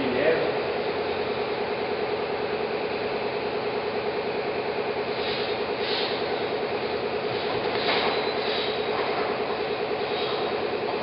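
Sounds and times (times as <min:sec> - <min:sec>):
sanding machine humming: 0:00.0 - 0:11.0.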